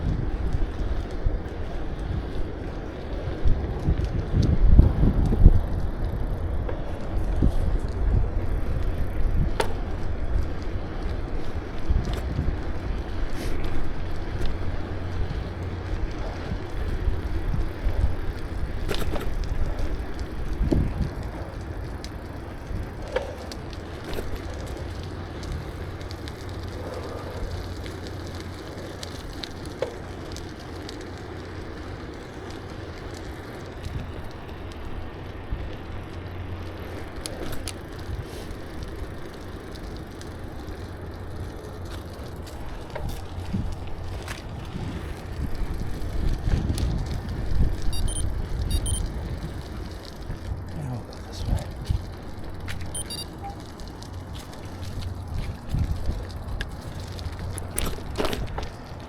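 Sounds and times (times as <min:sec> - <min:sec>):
bicycle tyres rumbling: 0:00.0 - 0:59.0
bike clicks and rattles: 0:00.0 - 0:59.0.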